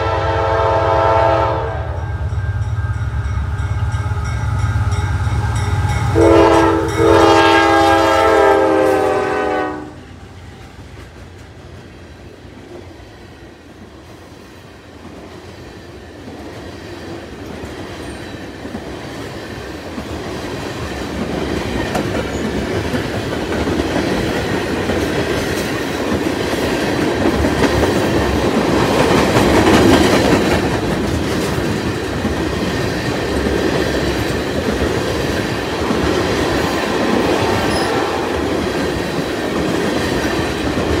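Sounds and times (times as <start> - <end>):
freight train wheels on rails: 0.0 - 41.0.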